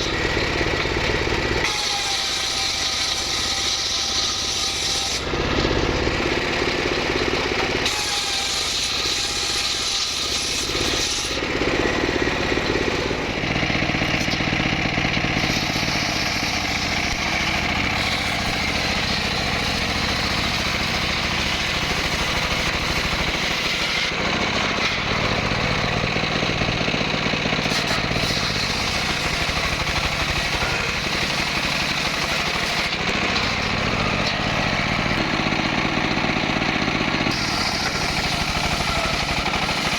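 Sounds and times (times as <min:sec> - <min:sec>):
power saw engine cutting wood: 0:00.0 - 0:39.9.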